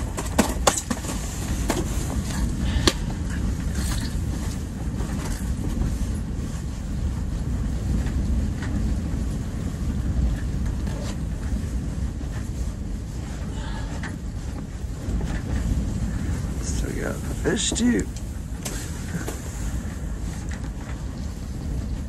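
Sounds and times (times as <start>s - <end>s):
low wind rumble: 0.0s - 22.0s.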